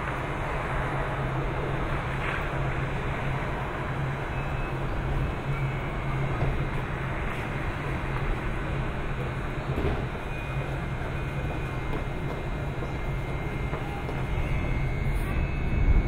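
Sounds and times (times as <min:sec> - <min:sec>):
constant rushing noise: 0:00.0 - 0:16.0
train equipment humming: 0:00.0 - 0:16.0.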